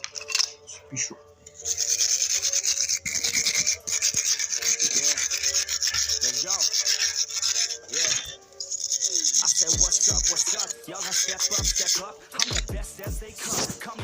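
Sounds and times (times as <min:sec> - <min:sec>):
wire brush scrubbing steel: 0:01.4 - 0:14.0.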